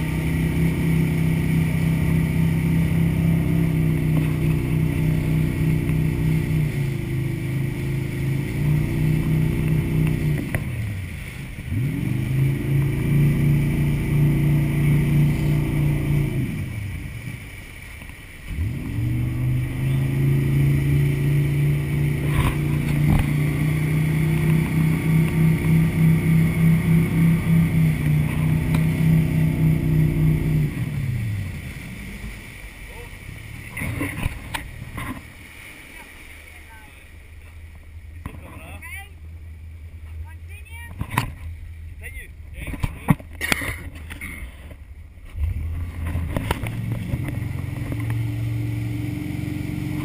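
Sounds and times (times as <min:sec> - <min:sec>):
speedboat engine revving: 0:00.0 - 0:50.0.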